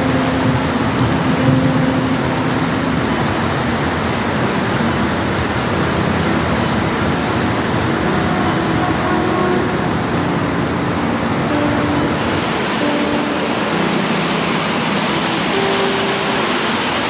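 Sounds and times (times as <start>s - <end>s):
faint tones: 0.0s - 17.0s
steady dense rain: 0.0s - 17.0s.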